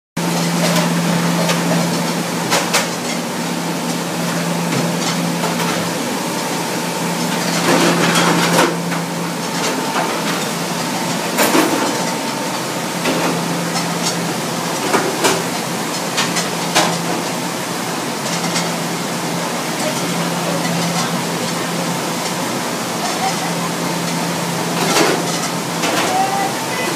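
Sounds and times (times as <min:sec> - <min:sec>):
dishwasher machine hum: 0:00.2 - 0:26.9
plates and racks clattering: 0:00.3 - 0:06.4, 0:07.1 - 0:17.5, 0:18.1 - 0:26.9.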